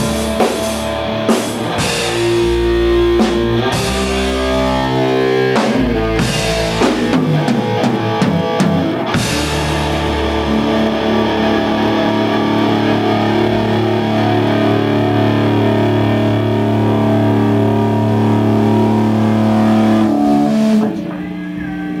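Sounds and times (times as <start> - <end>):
drum kit and cymbal hits: 0.0 - 22.0
electric guitar: 0.0 - 22.0.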